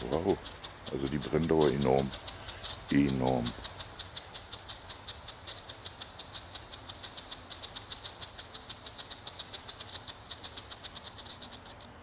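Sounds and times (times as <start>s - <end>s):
firework strobe rapid sharp pops: 0.0s - 12.0s.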